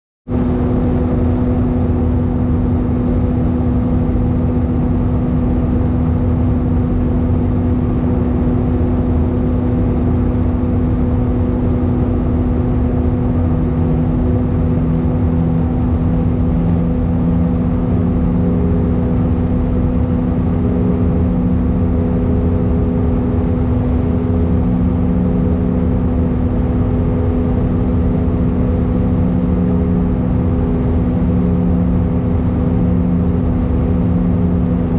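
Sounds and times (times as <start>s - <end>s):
jet engines droning: 0.3s - 34.9s
low hum: 0.3s - 34.9s
lower hum: 0.3s - 34.9s
rushing airflow: 0.3s - 34.9s.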